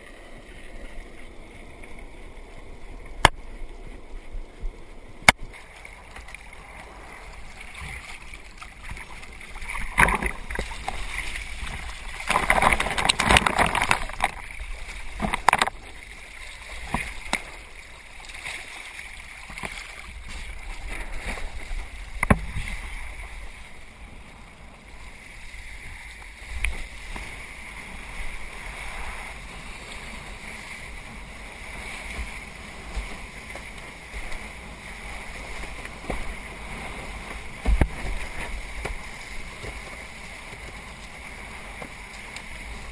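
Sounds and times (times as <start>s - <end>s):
water splashing along kayak hull: 0.0s - 42.9s.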